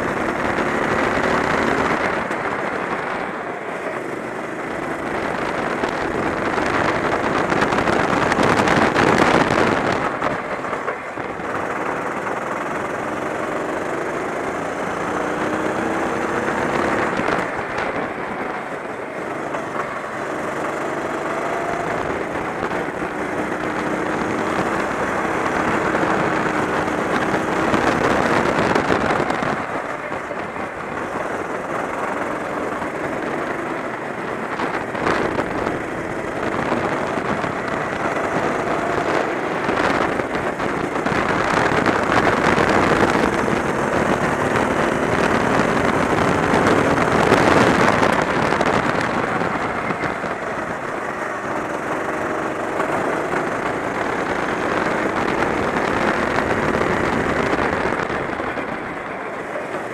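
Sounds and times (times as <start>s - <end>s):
kart engine racing: 0.0s - 59.9s
wind and road noise: 0.0s - 59.9s.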